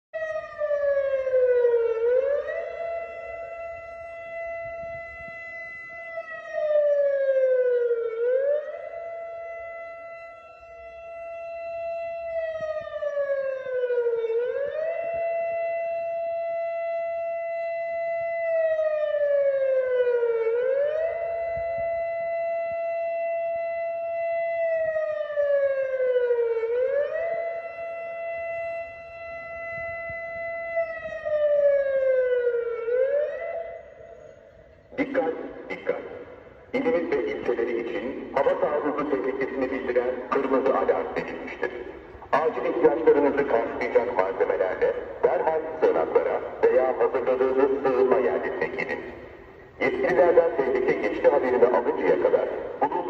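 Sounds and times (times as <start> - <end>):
rising and falling warning siren: 0.2 - 53.0.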